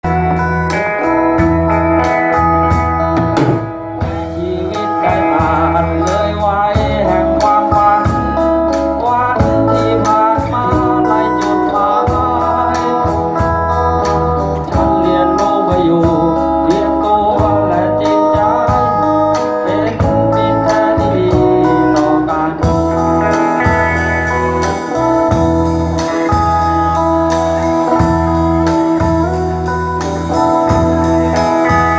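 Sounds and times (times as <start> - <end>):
bass line: 0.0 - 31.9
drums: 0.0 - 31.9
guitar melody: 0.0 - 31.9.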